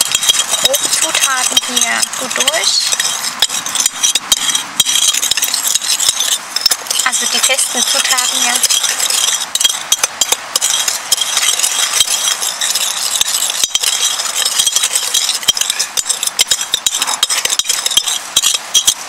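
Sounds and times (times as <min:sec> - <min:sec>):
metal spoon clinking in glass bowl: 0:00.0 - 0:19.0.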